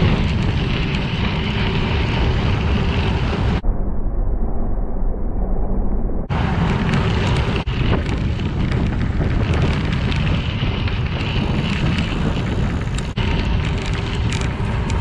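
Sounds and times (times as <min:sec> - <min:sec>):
bicycle tyres rolling on gravel: 0:00.0 - 0:03.6, 0:06.3 - 0:15.0
wind buffeting microphone: 0:00.0 - 0:03.6, 0:06.3 - 0:15.0.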